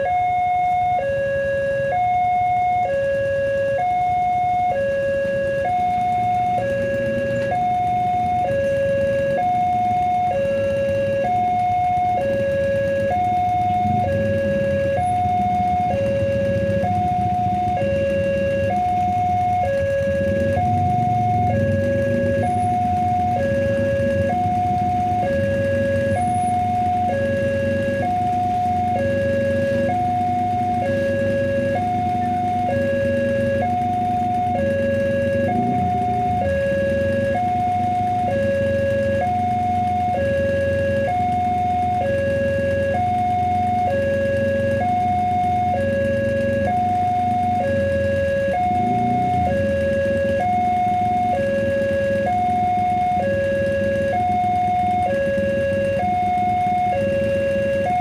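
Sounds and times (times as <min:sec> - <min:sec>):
two-tone crossing alarm: 0:00.0 - 0:58.0.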